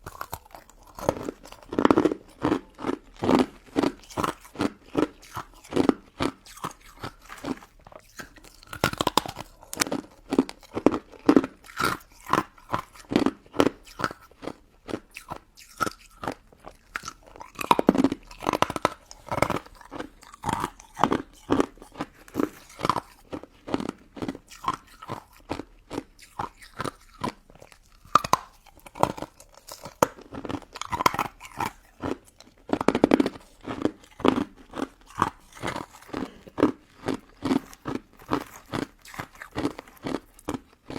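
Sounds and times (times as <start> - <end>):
crunchy ice chewing: 0.0 - 40.9.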